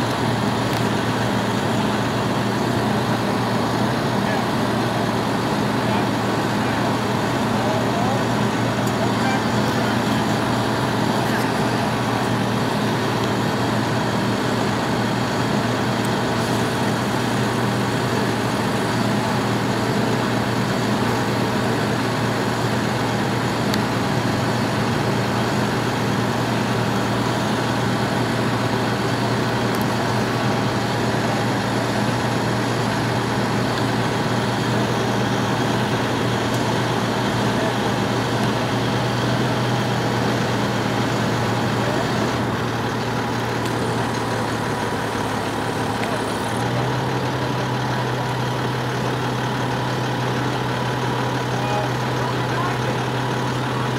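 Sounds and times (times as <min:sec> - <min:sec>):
fire truck engine running: 0:00.0 - 0:53.9.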